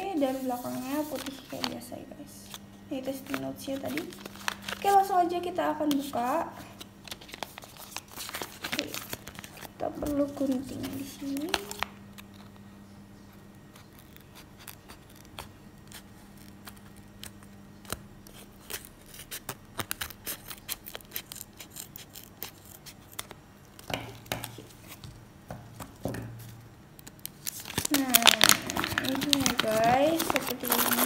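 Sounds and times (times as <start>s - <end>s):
bag handling noises: 0.2s - 12.6s, 18.1s - 31.0s
scissors cutting foil bag: 0.2s - 12.6s, 13.6s - 24.9s, 27.0s - 31.0s.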